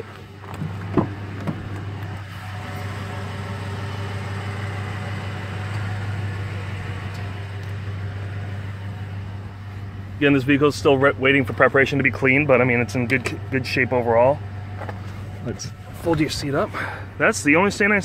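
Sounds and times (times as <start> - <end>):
pickup truck idling: 0.0 - 18.0.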